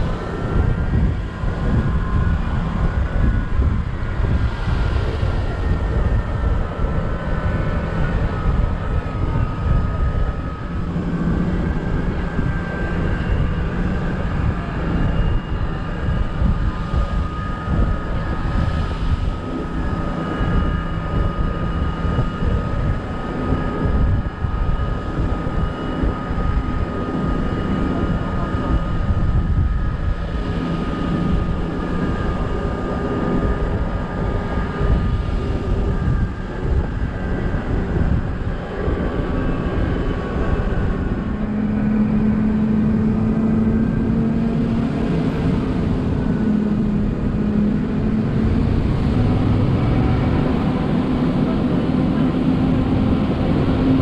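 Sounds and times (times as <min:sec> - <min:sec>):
bus engine drone: 0:00.0 - 0:54.0
wind buffeting on microphone: 0:00.0 - 0:54.0.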